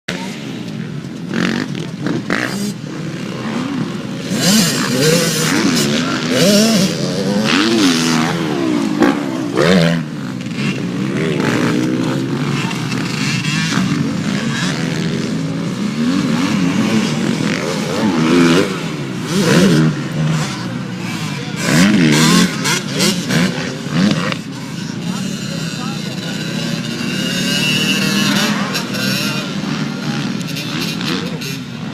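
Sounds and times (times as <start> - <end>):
motocross bike engines revving: 0.1 - 31.9.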